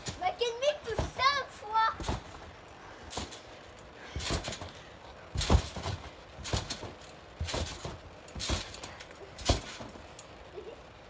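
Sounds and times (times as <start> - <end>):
trampoline landing thumps: 0.0 - 10.1.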